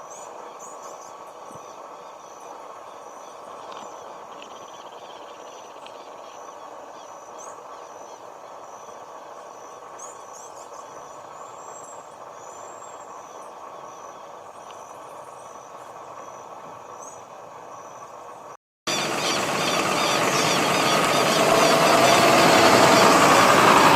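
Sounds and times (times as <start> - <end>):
birds calling: 0.0 - 23.9
road traffic rumble: 0.2 - 23.9.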